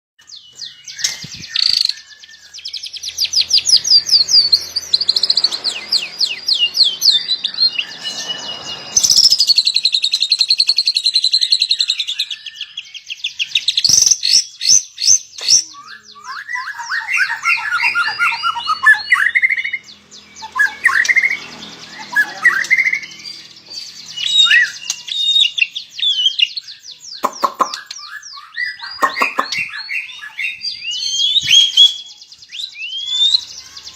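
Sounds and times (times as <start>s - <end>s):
bird singing trills and whistles: 0.2s - 33.9s.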